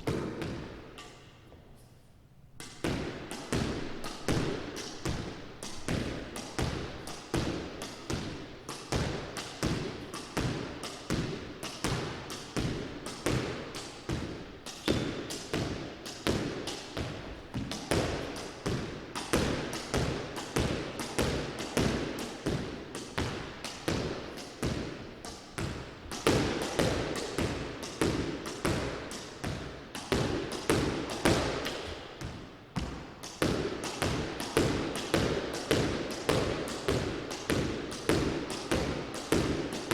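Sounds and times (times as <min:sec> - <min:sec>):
squash ball hits and rebounds: 0:00.0 - 0:01.3, 0:02.6 - 0:39.9.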